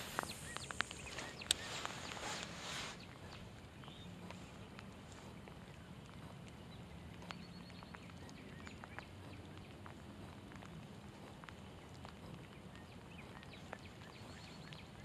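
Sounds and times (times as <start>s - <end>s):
raindrops tapping: 0.0s - 15.0s
soft rain hiss: 0.0s - 15.0s.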